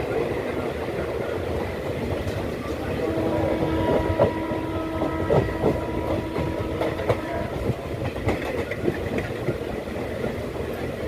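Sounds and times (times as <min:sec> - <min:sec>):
steady train whine: 0:00.0 - 0:11.0
train wheels clattering on rails: 0:00.0 - 0:11.0.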